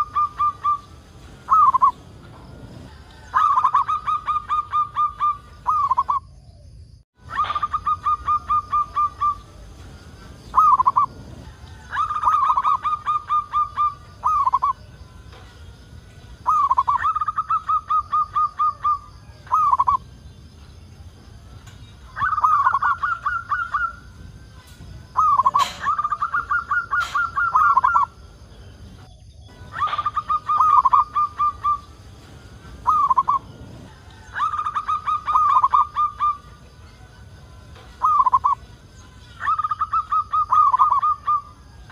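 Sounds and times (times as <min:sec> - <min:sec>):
dove cooing: 0:00.0 - 0:06.6, 0:07.2 - 0:20.2, 0:21.0 - 0:41.9.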